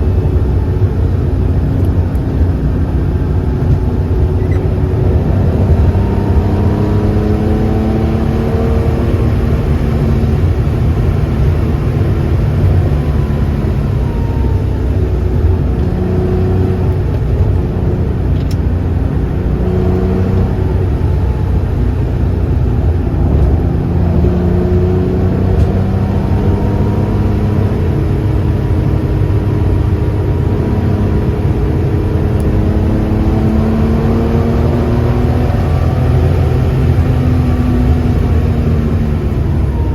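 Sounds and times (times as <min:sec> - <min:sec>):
car engine rising and falling: 0:00.0 - 0:39.9
low engine and road rumble: 0:00.0 - 0:39.9.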